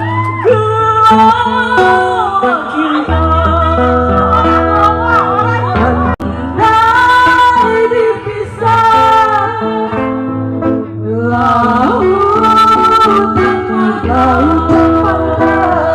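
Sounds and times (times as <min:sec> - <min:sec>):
high voice singing: 0:00.0 - 0:10.4, 0:11.1 - 0:15.9
live band with bass and guitar: 0:00.0 - 0:15.9.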